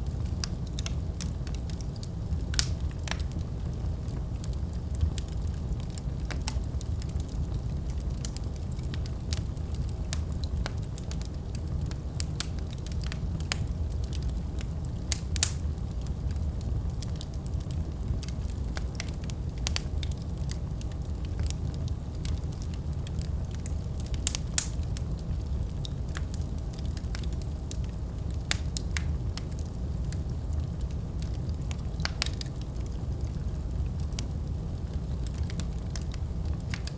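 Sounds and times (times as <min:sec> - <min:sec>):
fire crackling and popping: 0:00.0 - 0:36.9.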